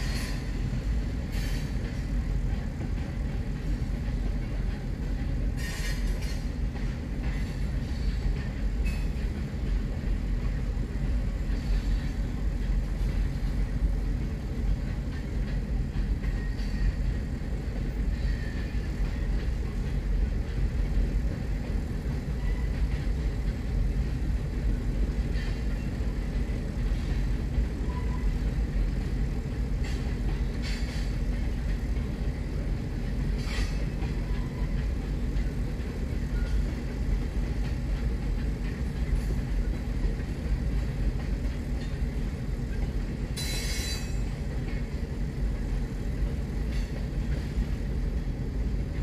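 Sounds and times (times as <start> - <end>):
freight train rumble: 0.0 - 49.0.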